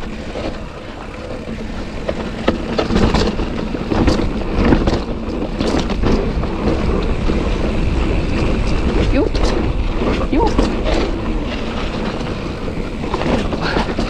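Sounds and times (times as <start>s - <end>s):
bike rattling and clacking: 0.0s - 14.0s
wind rushing over microphone: 0.0s - 14.0s.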